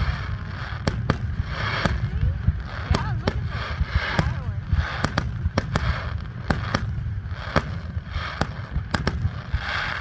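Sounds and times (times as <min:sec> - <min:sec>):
fireworks banging: 0:00.0 - 0:10.0
fireworks crackling: 0:00.0 - 0:10.0
low rumble: 0:00.0 - 0:10.0.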